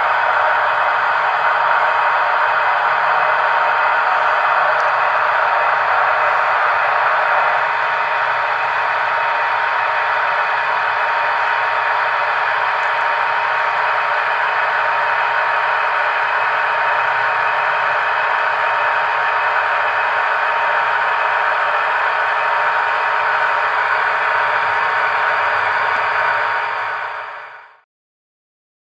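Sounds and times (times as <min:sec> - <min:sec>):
model train motors whirring: 0:00.0 - 0:27.8.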